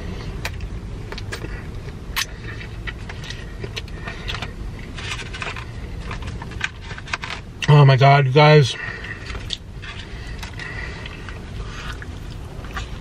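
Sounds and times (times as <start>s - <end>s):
car idling: 0.0s - 13.0s.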